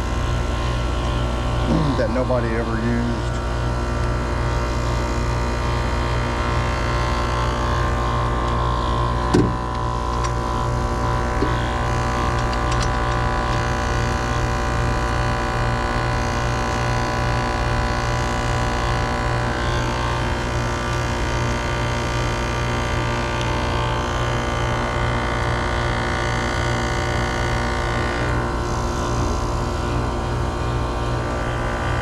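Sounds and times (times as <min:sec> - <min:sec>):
air conditioner humming: 0:00.0 - 0:26.6.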